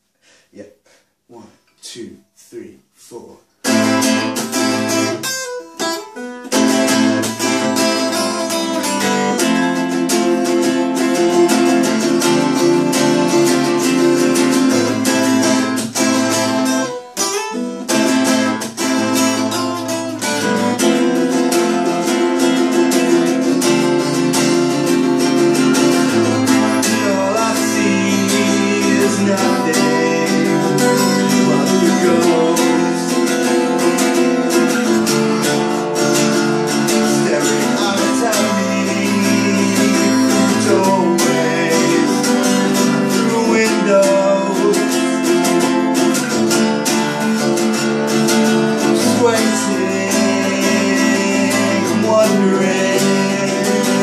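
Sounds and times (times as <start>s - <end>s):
acoustic guitar strumming: 3.6s - 54.0s
plucked string instrument strumming: 3.6s - 54.0s.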